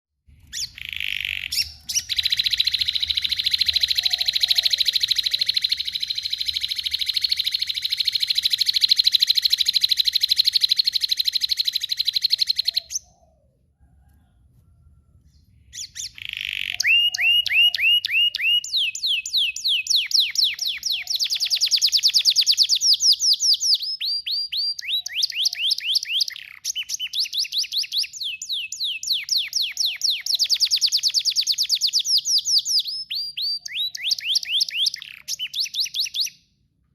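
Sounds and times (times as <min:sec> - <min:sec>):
canary singing fast trills: 0:00.3 - 0:13.5, 0:15.3 - 0:36.4.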